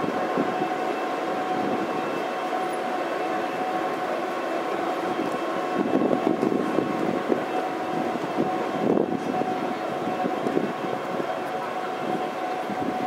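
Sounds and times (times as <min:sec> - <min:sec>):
steady high-pitched whine: 0:00.0 - 0:13.0.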